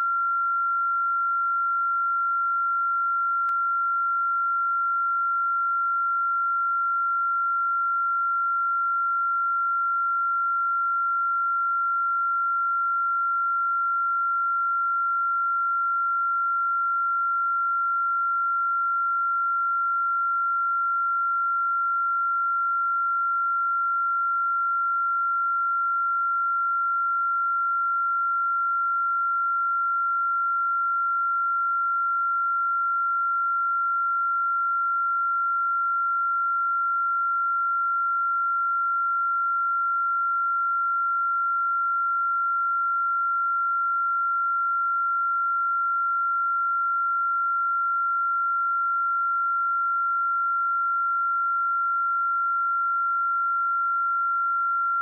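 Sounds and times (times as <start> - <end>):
sine wave test tone: 0.0 - 55.0.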